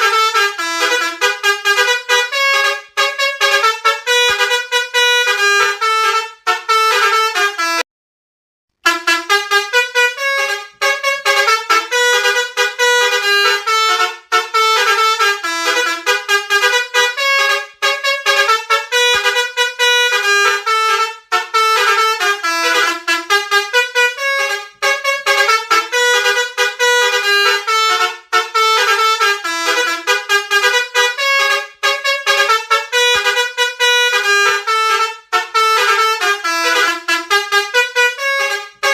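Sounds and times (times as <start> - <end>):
bus horn playing a tune: 0.0 - 7.8, 8.8 - 38.9.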